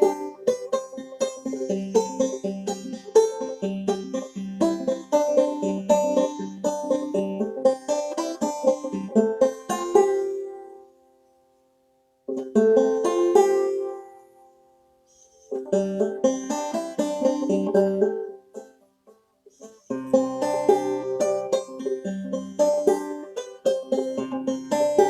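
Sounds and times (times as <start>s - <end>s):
banjo playing: 0.0s - 11.2s, 12.2s - 25.0s.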